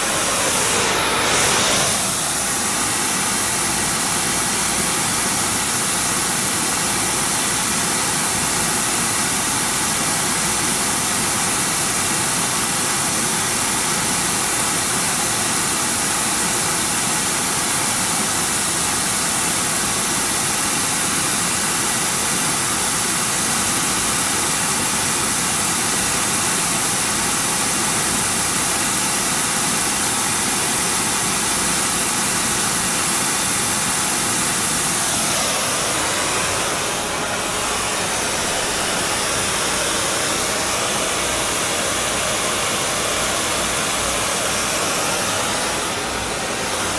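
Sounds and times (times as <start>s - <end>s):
welding torch hissing roar: 0.0s - 10.5s, 11.3s - 46.9s.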